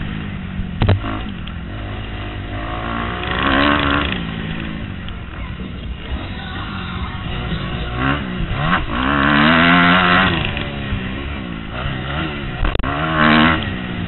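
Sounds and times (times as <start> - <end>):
motocross engine revving: 0.0 - 14.0.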